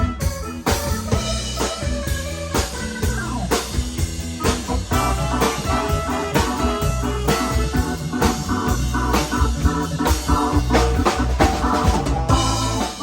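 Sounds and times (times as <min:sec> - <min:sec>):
rock band music: 0:00.0 - 0:13.0.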